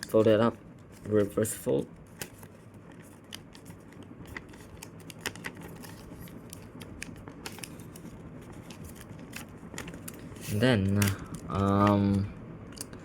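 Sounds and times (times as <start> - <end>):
paper being folded: 0.0 - 12.3.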